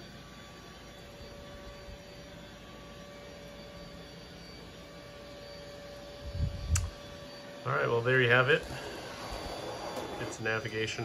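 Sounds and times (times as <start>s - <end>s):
robot vacuum whirring on carpet: 0.0s - 11.0s.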